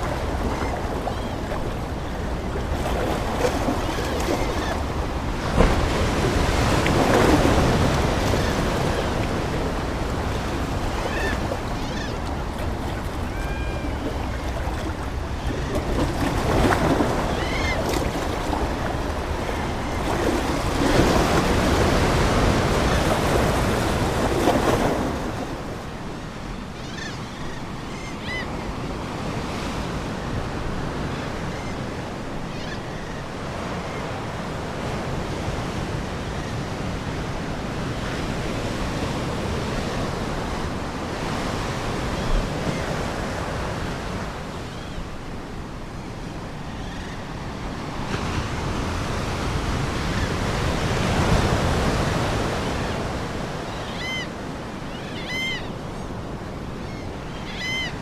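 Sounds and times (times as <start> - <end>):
ocean waves washing on shore: 0.0 - 58.0.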